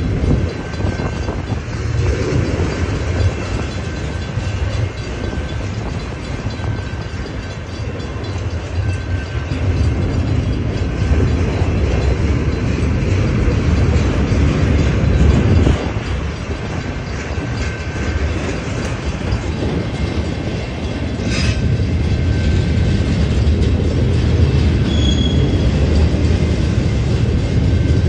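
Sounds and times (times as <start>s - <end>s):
clickety-clack of rail joints: 0.0s - 28.0s
freight train wheels rumbling: 0.0s - 28.0s.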